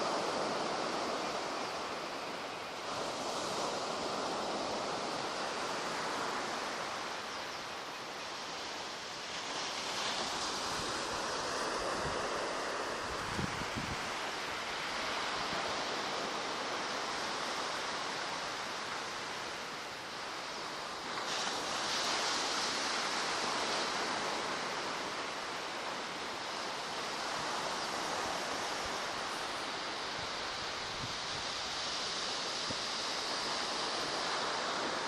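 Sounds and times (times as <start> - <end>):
waves breaking on shore: 0.0 - 35.0.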